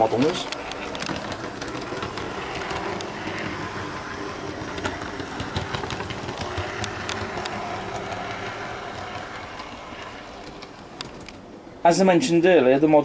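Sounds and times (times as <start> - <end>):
model train motor hum: 0.0 - 11.5
wheels clicking on rails: 0.0 - 11.7.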